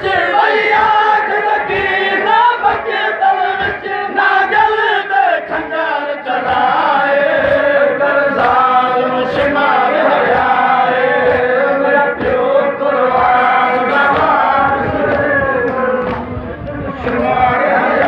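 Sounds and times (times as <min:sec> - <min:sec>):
crowd of men chanting in unison: 0:00.0 - 0:18.0
loud voice leading chant: 0:00.0 - 0:18.0.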